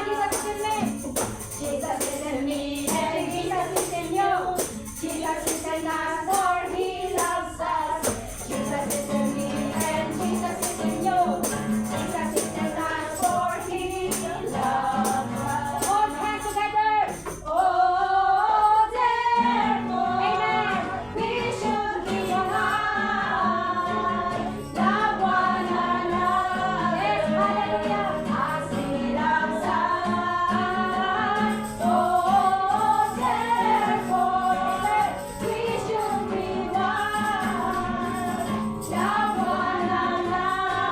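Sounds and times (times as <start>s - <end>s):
jingling tambourine: 0.0s - 40.9s
voices singing worship song: 0.0s - 40.9s.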